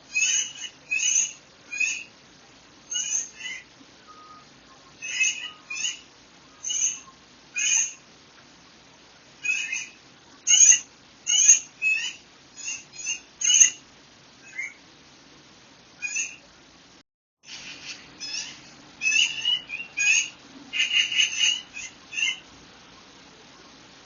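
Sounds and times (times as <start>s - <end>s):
songbirds singing: 0.0s - 8.2s, 9.4s - 13.8s, 14.4s - 14.9s, 16.0s - 16.5s, 17.5s - 23.8s.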